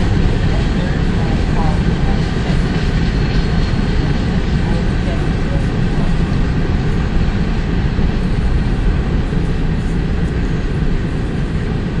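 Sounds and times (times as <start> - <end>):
freight train cars rumbling: 0.0 - 12.0.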